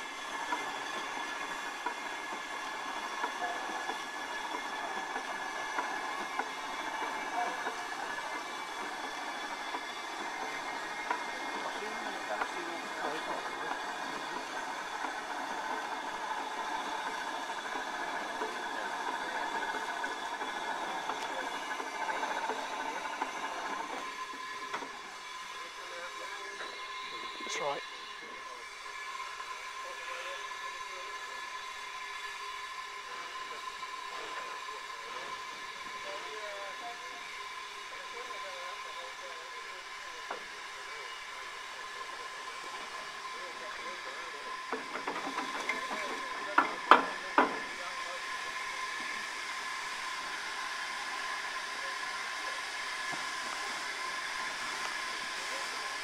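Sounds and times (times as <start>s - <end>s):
crane mechanical whine: 0.0s - 56.0s
steam locomotive hissing: 0.0s - 56.0s.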